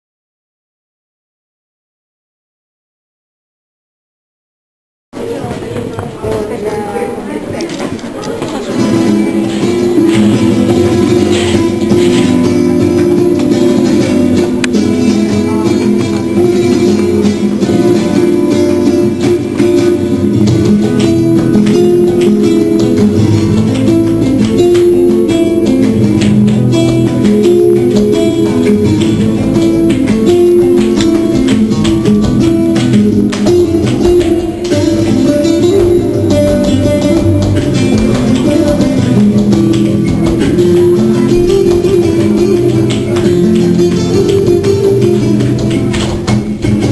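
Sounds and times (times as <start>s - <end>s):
flamenco guitar music: 5.2s - 46.9s.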